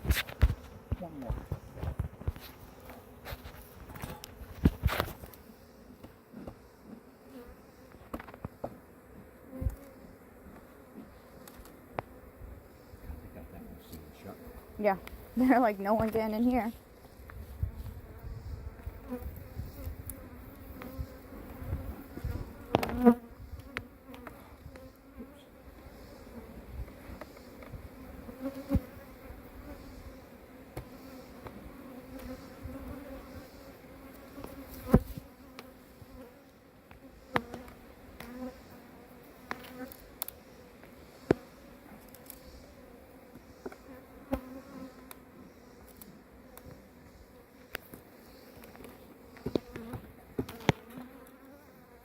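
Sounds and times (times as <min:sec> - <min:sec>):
honeybees buzzing: 0:00.0 - 0:52.0.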